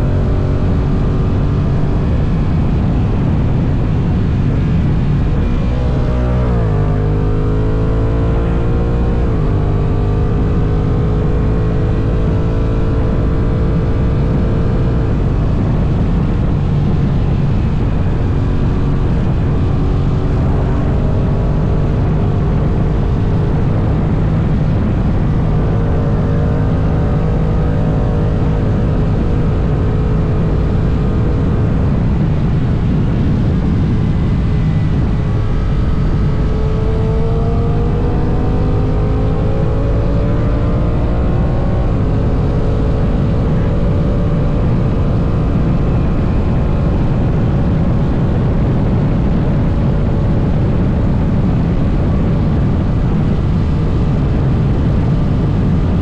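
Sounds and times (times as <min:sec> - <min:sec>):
motorcycle engine at speed: 0:00.0 - 0:56.0
wind noise: 0:00.0 - 0:56.0.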